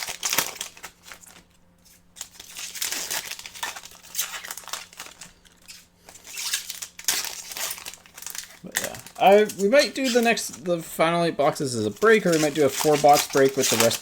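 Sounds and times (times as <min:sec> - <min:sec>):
wrappers and cards crinkling: 0:00.0 - 0:14.0.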